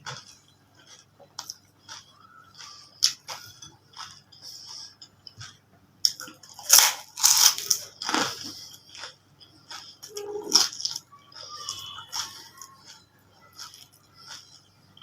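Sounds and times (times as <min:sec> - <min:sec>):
crisp shells crunching while chewed: 0:00.0 - 0:15.0.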